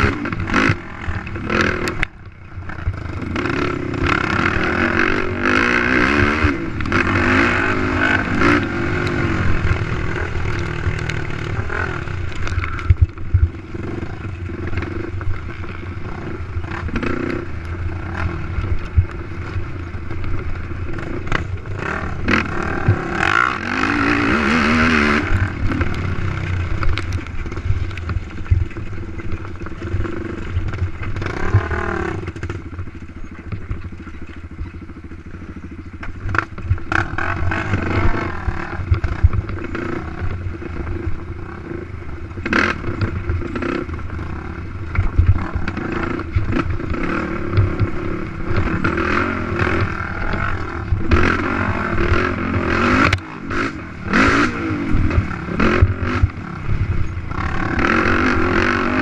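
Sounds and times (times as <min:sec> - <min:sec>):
quad engine revving: 0:00.0 - 0:32.6, 0:36.3 - 0:59.0
knocks and rattles over rough ground: 0:00.0 - 0:59.0.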